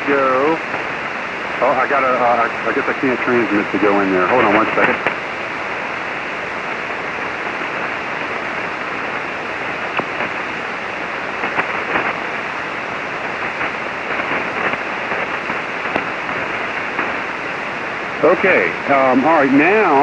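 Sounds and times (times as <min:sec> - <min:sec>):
faint static crackles: 0:00.0 - 0:20.0
radio receiver hiss: 0:00.0 - 0:20.0.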